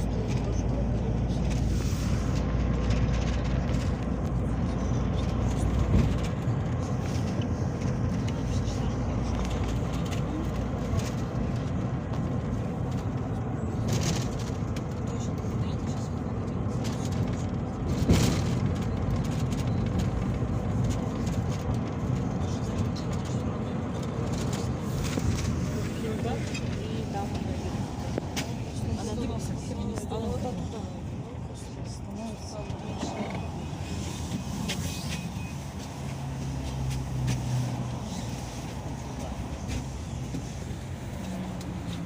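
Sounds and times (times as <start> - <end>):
minibus engine rumble: 0.0 - 42.0
road noise: 0.0 - 42.0.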